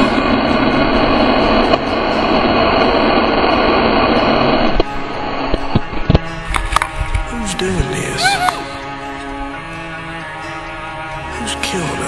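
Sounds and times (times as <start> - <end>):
rushing static noise: 0.0 - 12.0.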